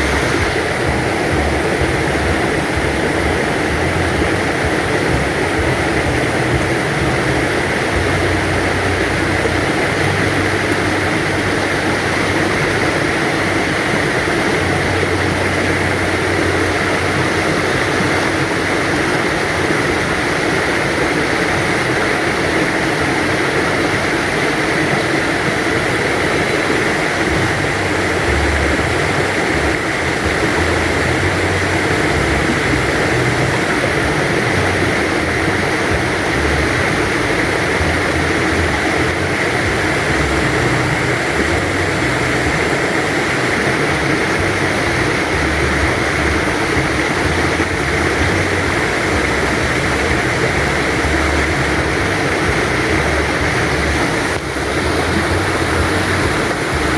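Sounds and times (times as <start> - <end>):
stream water rushing: 0.0 - 56.9.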